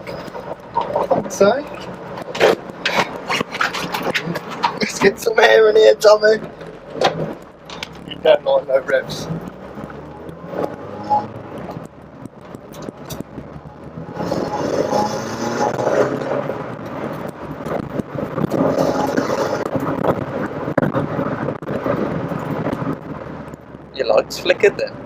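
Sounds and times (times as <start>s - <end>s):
car engine accelerating: 0.0s - 25.0s
road noise: 0.0s - 25.0s
wind noise: 0.0s - 25.0s.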